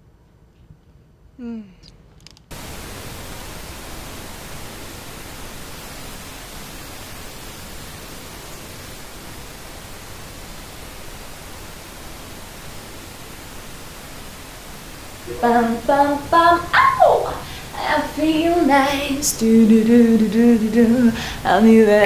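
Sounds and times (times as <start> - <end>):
television static hiss: 1.4 - 22.0.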